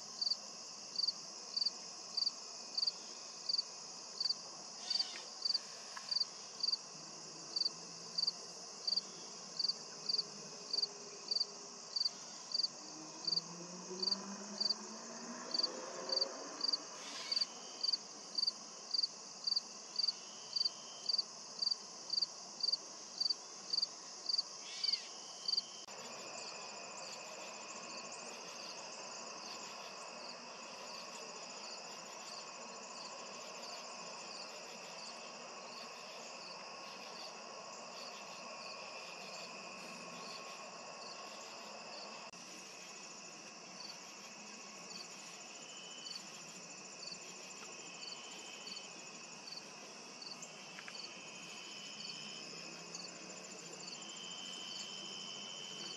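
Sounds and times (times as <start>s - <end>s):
cricket chirping: 0.0s - 55.9s
high insect chorus: 0.0s - 55.9s.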